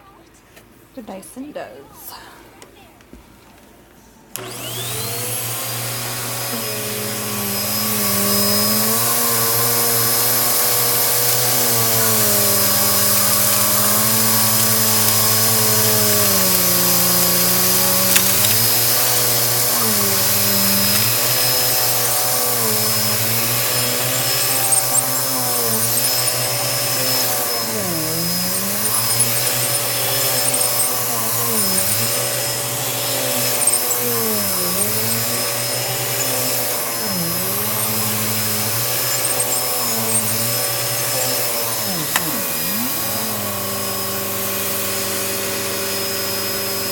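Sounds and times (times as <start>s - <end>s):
vacuum cleaner running: 4.3s - 46.9s.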